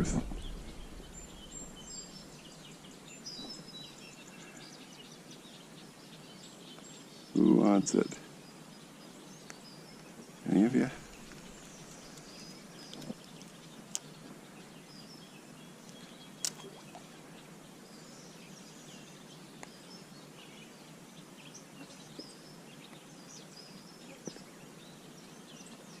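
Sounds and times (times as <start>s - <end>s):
birds chirping: 0.0s - 26.0s
outdoor background hiss: 0.0s - 26.0s.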